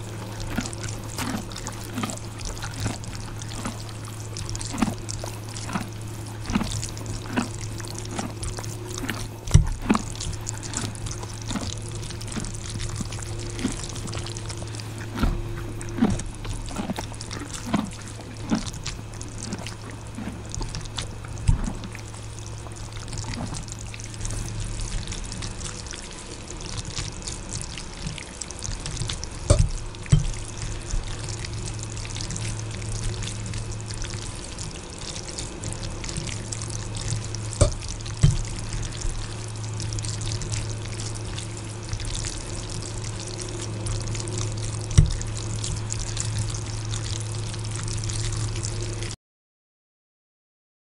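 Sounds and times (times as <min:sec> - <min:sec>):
chewing and slurping noodles: 0:00.0 - 0:49.2
steady low hum: 0:00.0 - 0:49.2.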